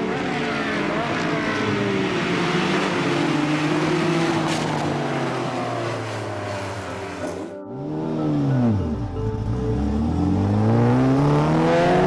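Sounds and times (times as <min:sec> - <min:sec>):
sports car engines driving by: 0:00.0 - 0:12.0.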